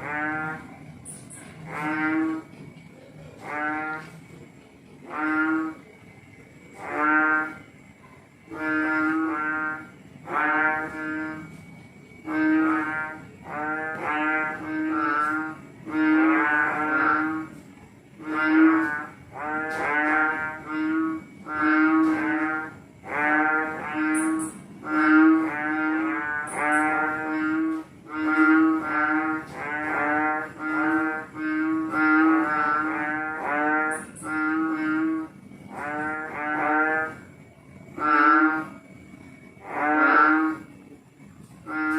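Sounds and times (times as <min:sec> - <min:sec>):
frogs calling: 0:00.0 - 0:41.9.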